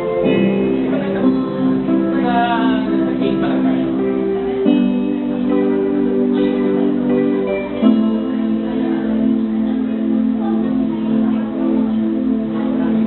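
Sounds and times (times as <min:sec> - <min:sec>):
music with held chords: 0:00.0 - 0:13.0
wavering melodic line: 0:00.0 - 0:13.0.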